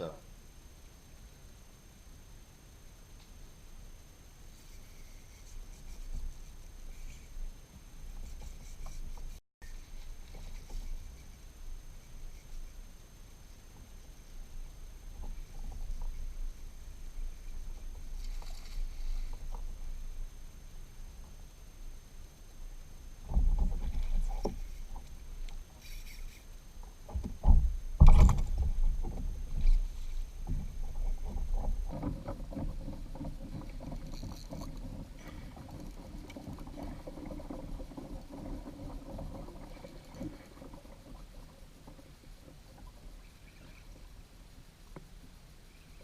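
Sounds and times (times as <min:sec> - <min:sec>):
low rumble of hull and water: 0:00.0 - 0:46.0.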